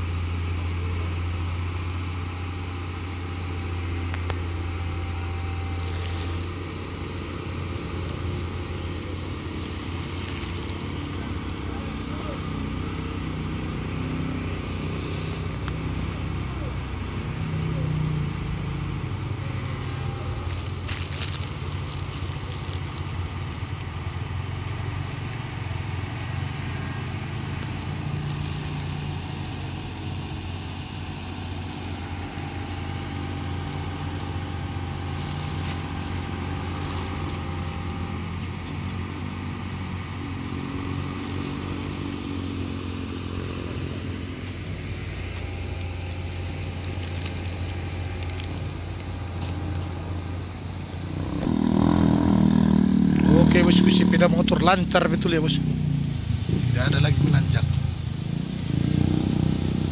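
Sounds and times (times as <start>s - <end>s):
excavator engine droning: 0.0s - 59.9s
rock and earth crackling: 4.1s - 55.7s.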